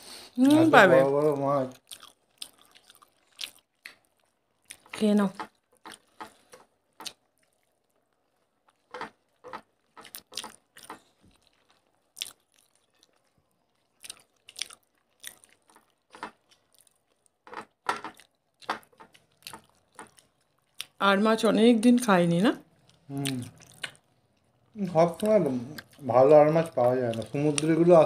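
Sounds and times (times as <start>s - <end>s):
chewing and mouth smacks: 1.7s - 21.0s, 22.7s - 26.1s.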